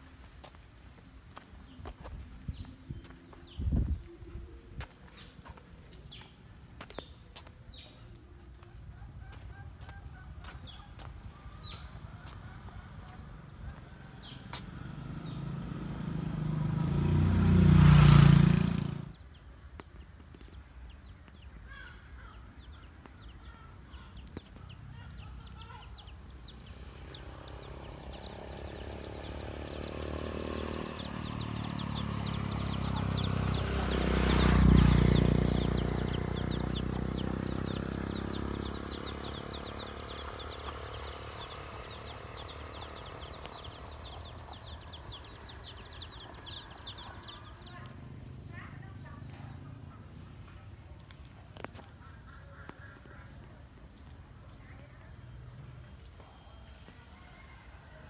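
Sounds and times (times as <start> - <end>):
birds chirping: 0.0 - 58.0
vehicles passing: 0.0 - 58.0.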